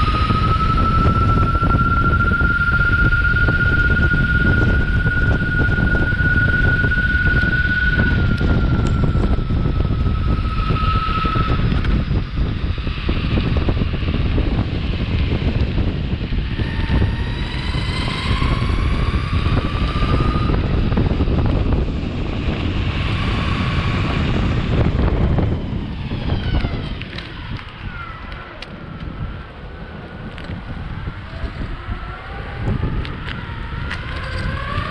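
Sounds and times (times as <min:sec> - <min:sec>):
electric motors whining: 0:00.0 - 0:34.9
rumble of wheels: 0:00.0 - 0:34.9
wind buffeting microphone: 0:00.0 - 0:34.9.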